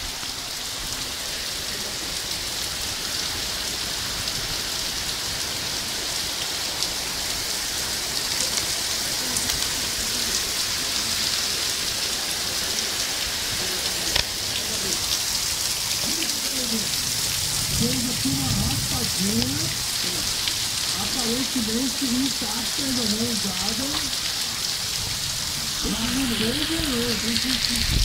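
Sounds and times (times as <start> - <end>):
rain falling: 0.0 - 28.0
raindrops ticking: 5.2 - 28.0.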